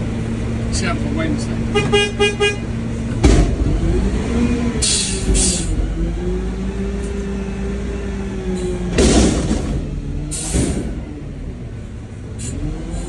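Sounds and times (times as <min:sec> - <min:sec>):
engine whine: 0:00.0 - 0:13.0
garbage truck engine running: 0:00.0 - 0:13.0.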